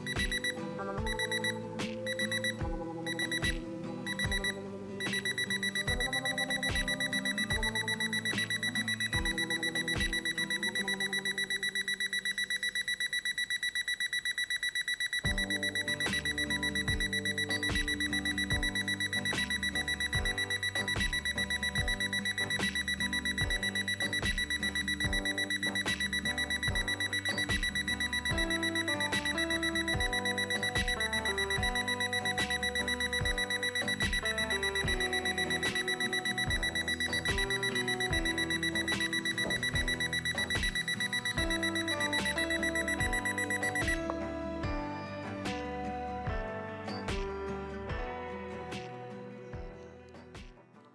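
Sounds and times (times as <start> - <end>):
background music with beat: 0.0 - 12.6, 15.2 - 50.9
alarm clock beeping: 0.0 - 48.1.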